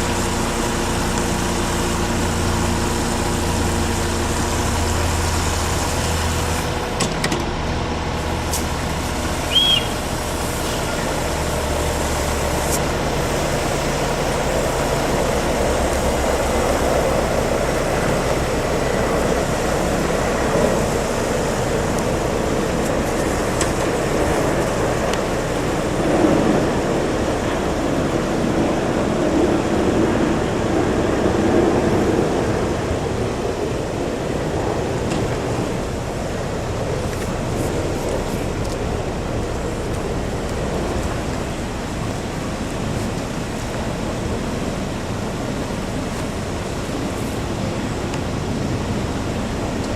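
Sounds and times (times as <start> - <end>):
heavy truck engine running: 0.0 - 49.9
steady rushing noise: 0.0 - 49.9.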